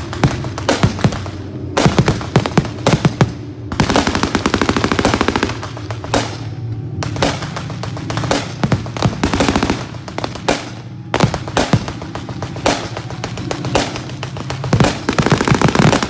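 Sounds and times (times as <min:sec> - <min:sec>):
rapid anti-aircraft gunfire: 0:00.0 - 0:16.0.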